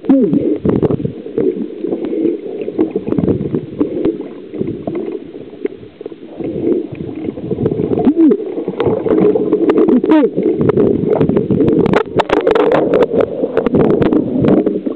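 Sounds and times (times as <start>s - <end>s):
underwater water churn and bubbles: 0.0s - 14.9s
underwater clicks and knocks: 0.6s - 14.9s.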